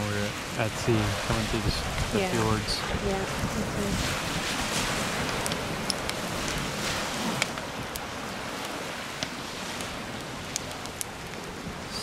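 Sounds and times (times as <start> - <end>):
waves washing onto gravel beach: 0.0 - 12.0
wind: 0.0 - 12.0.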